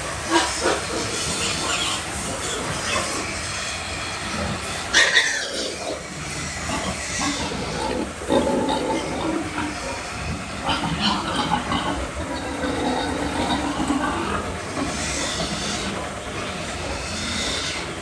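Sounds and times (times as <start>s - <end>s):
piglets squealing and grunting: 0.0s - 18.0s.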